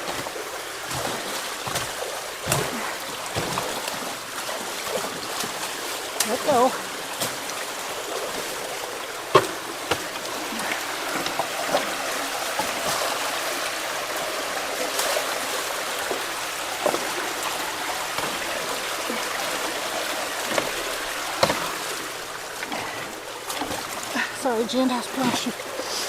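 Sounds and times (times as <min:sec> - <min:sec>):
creek water rushing: 0:00.0 - 0:26.0
knocks and splashes: 0:00.0 - 0:26.0.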